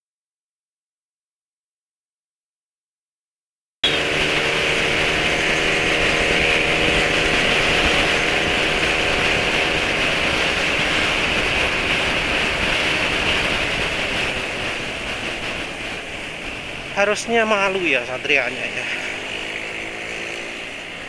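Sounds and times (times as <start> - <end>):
motor scooter engine running: 3.8 - 21.0
wind and road noise: 3.8 - 21.0.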